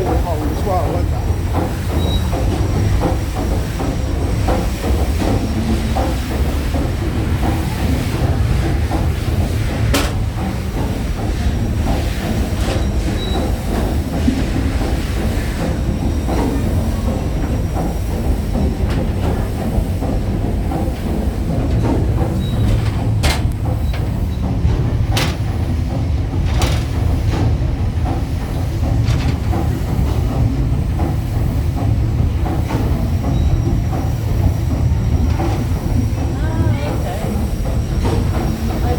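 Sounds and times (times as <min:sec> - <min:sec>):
steam engine rumble and clatter: 0:00.0 - 0:38.9.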